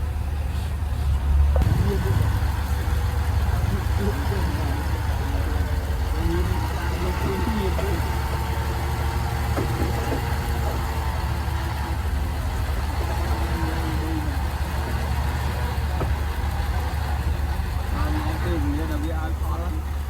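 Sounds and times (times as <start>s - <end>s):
heavy machine engine rumbling: 0.0s - 20.0s.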